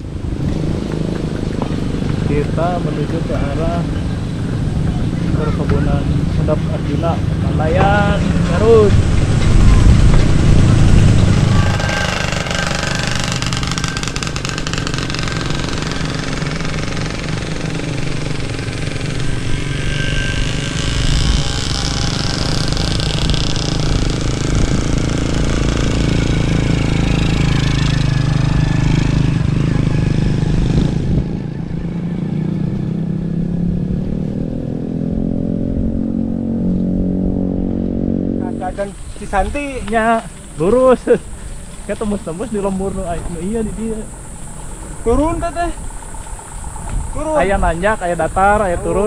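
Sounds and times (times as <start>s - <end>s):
wind and road hiss: 0.0s - 49.0s.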